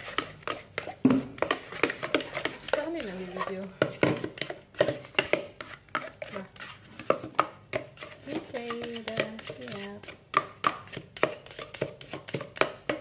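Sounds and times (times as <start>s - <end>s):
spatula scraping plastic bowl: 0.0s - 13.0s.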